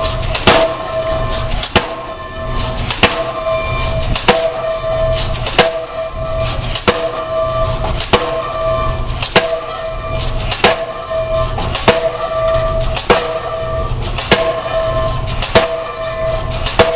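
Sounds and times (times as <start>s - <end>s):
pile driver blows: 0.0s - 16.9s
ringing tone: 0.7s - 16.6s.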